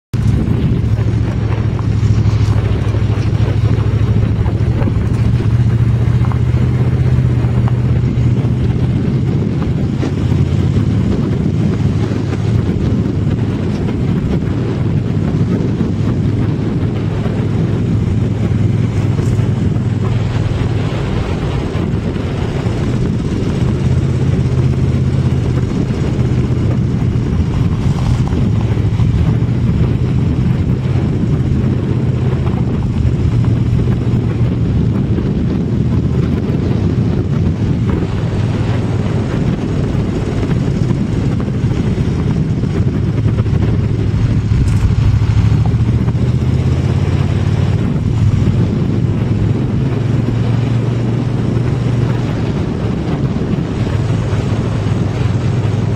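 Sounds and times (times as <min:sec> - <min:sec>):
vehicle engine drone: 0:00.0 - 0:55.9
tyres rumbling on gravel: 0:00.1 - 0:55.9
wind on microphone: 0:00.1 - 0:55.9.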